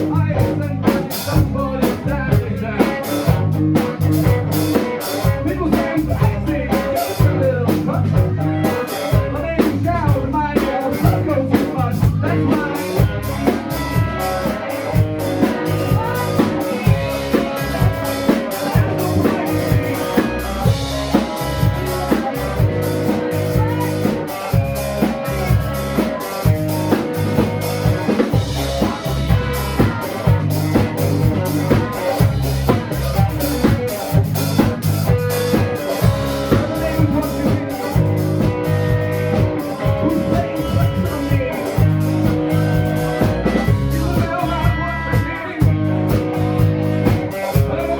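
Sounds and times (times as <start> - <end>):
drum kit steady beat: 0.0 - 47.9
live band playing instrumental: 0.0 - 47.9.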